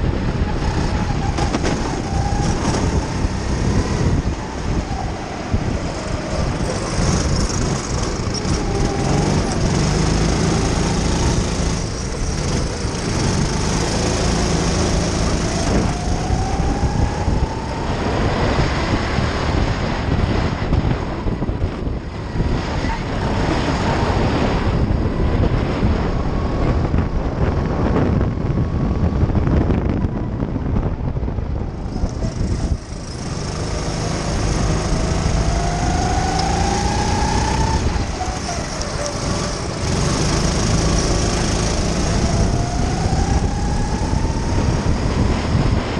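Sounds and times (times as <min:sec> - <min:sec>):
kart engine at speed: 0:00.0 - 0:45.9
wind rush over microphone: 0:00.0 - 0:45.9.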